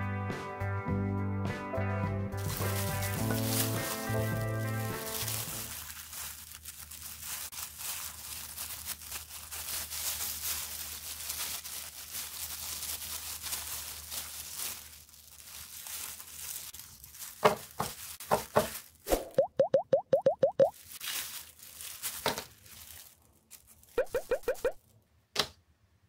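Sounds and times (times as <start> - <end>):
plastic gloves crinkling: 2.4 - 19.2, 20.2 - 25.0.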